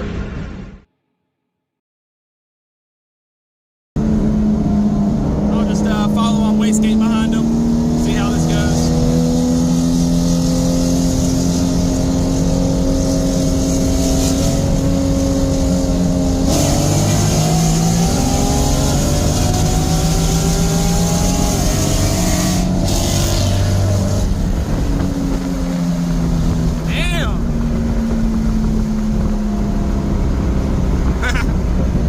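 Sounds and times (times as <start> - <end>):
car engine and exhaust droning: 4.0 - 32.0.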